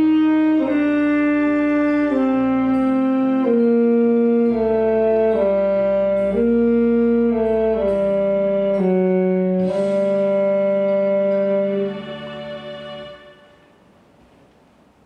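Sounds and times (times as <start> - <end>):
saxophone slow melody: 0.0 - 14.0.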